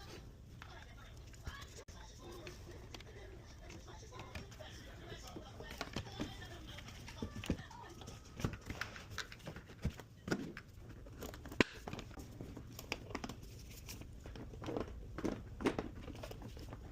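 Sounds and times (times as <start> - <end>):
rustling: 0.0 - 16.9.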